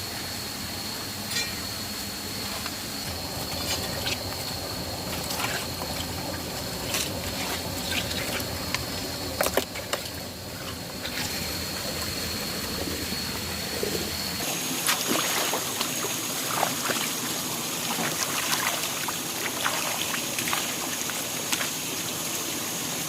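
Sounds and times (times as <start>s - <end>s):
water running: 2.3s - 23.0s.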